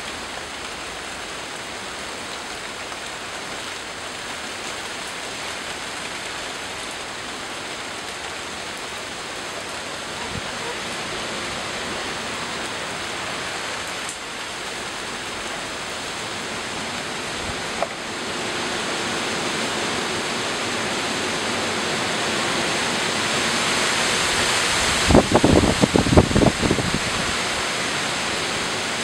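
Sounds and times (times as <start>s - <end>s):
rain falling on leaves: 0.0s - 29.0s.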